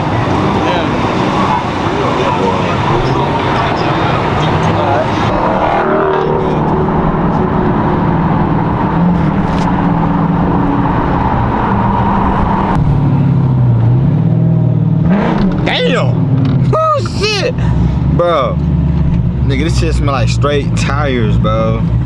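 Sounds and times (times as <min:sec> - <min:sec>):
car engine at high revs: 0:00.0 - 0:22.0.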